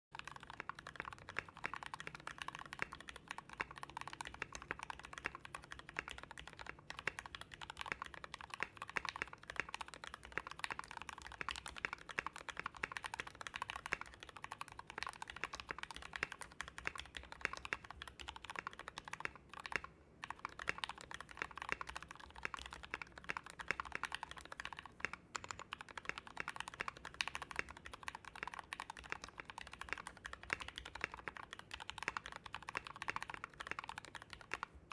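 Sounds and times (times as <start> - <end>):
typing on mechanical keyboard: 0.1 - 34.9.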